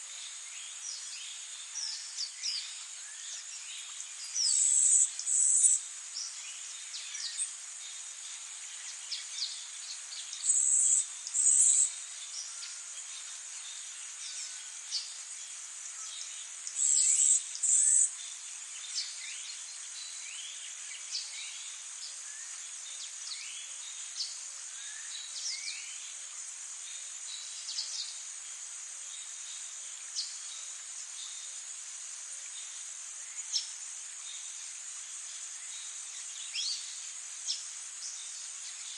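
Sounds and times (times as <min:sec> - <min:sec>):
insect trill: 0:00.1 - 0:38.9.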